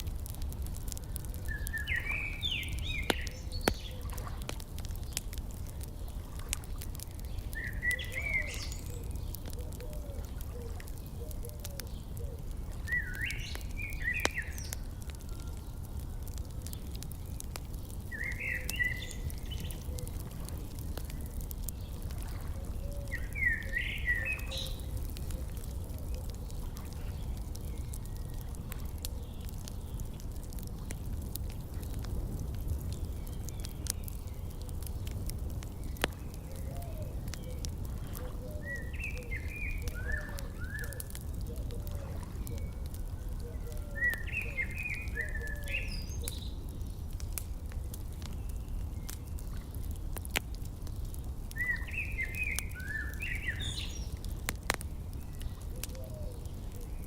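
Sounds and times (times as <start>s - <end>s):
wood fire crackling: 0.0s - 57.0s
small birds chirping: 0.2s - 57.0s.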